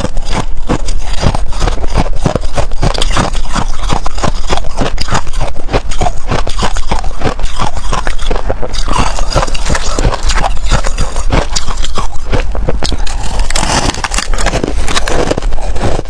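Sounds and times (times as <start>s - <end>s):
frost being chewed crunching: 0.0s - 16.0s.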